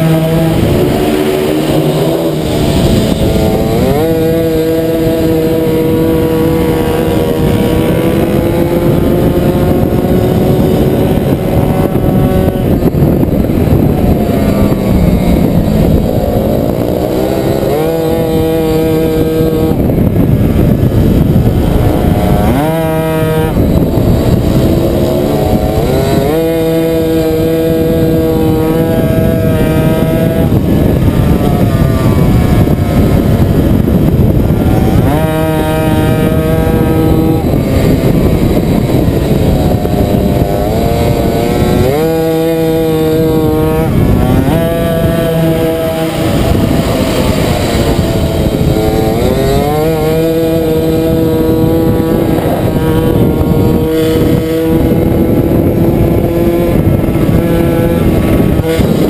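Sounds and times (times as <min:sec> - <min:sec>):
two-stroke moped engine revving: 0:00.0 - 0:59.0.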